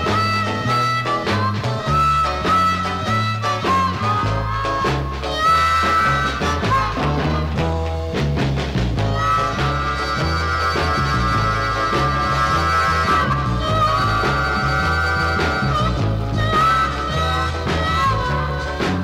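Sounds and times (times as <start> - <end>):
blues lead guitar bending notes: 0.0 - 19.0
drums: 0.0 - 19.0
stepping bass line: 0.0 - 19.0.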